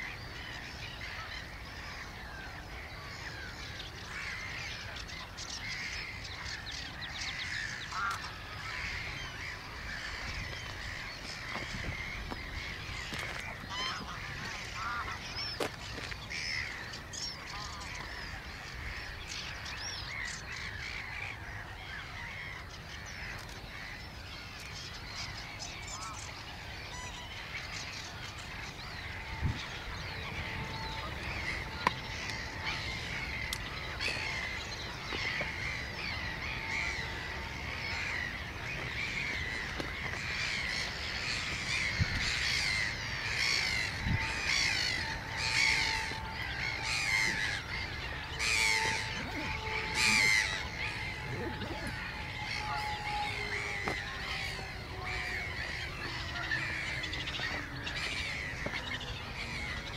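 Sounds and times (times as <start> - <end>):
birds chirping and warbling: 0.0 - 59.9.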